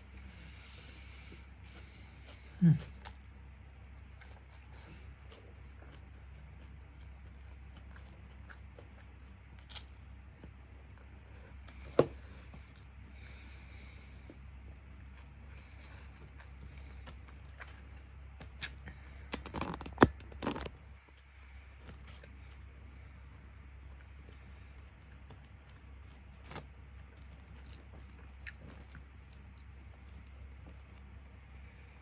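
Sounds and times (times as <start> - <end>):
person chewing crunchy food: 0.0 - 32.0
steady low hum: 0.0 - 32.0.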